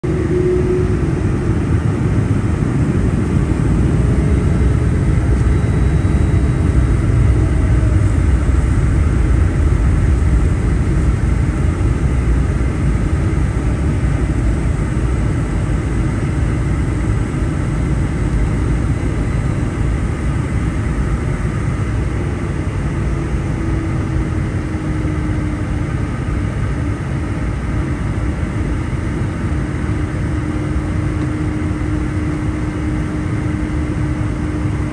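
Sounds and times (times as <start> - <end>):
faint hum: 0.0 - 34.9
jet engines low rumble: 0.0 - 34.9.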